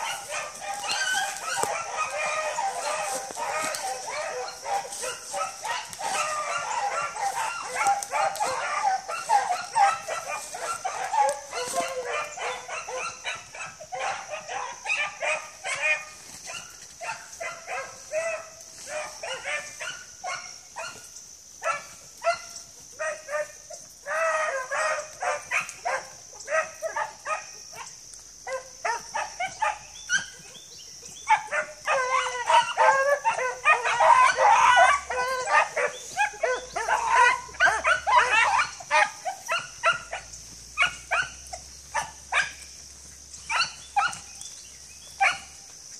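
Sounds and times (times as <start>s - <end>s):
beagles baying and yelping: 0.0s - 45.9s.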